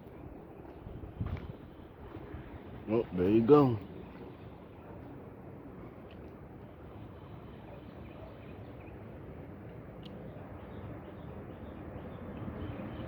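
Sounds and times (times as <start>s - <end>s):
wind with low rumble: 0.0s - 13.0s.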